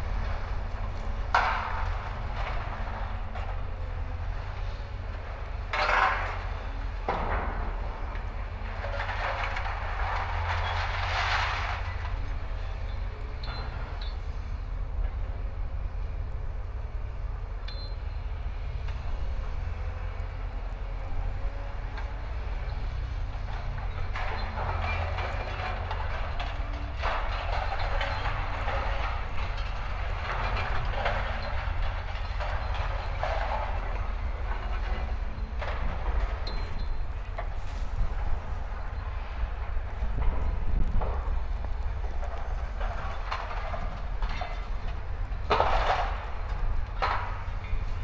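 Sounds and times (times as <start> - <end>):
rushing clattering load: 0.0 - 17.5, 18.2 - 48.0
diesel machinery rumbling: 0.0 - 48.0.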